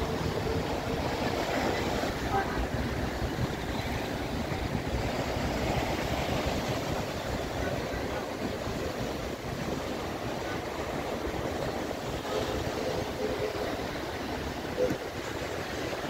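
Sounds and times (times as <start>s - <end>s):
choppy sea wash: 0.0s - 16.0s
wind rumbling on microphone: 0.0s - 16.0s.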